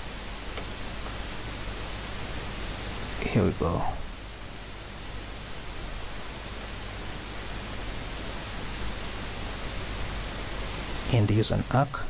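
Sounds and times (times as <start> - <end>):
microphone background hiss: 0.0 - 12.0.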